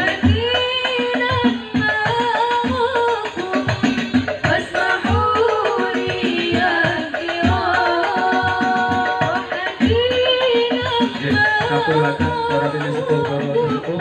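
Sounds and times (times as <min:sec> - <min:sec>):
frame drums beating: 0:00.0 - 0:14.0
women singing in unison: 0:00.0 - 0:14.0.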